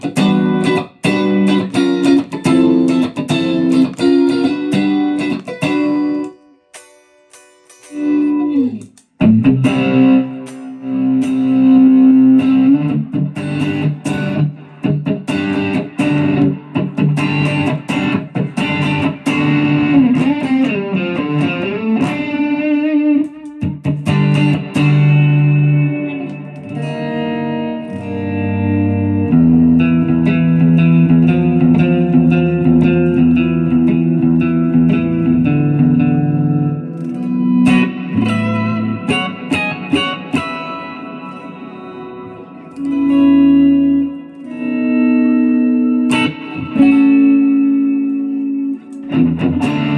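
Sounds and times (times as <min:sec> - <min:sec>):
electric guitar playing: 0:00.0 - 0:49.9.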